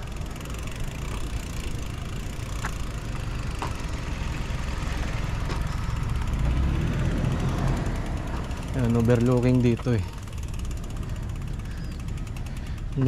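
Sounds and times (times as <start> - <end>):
wind and tyre rumble: 0.0 - 13.0.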